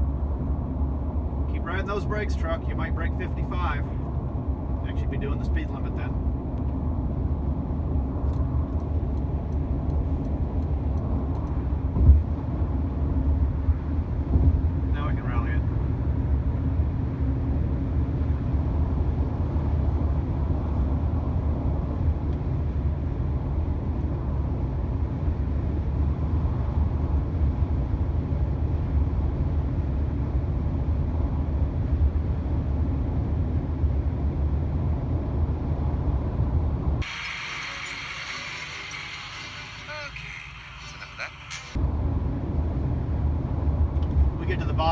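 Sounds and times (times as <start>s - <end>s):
minivan driving at highway speed: 0.0s - 44.9s.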